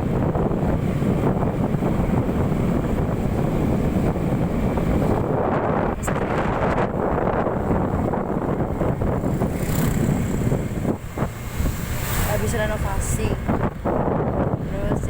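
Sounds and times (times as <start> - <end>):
motorcycle engine running: 0.0 - 15.0
tyres on the road: 0.0 - 15.0
wind rushing over microphone: 0.0 - 15.0.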